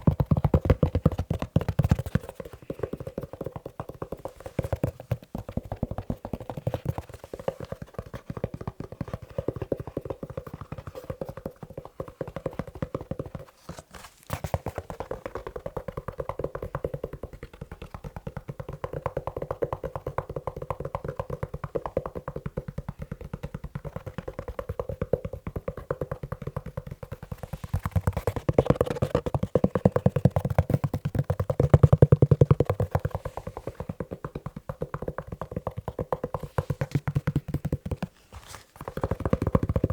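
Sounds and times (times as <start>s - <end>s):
fast tapping on leather shoe: 0.0s - 39.9s.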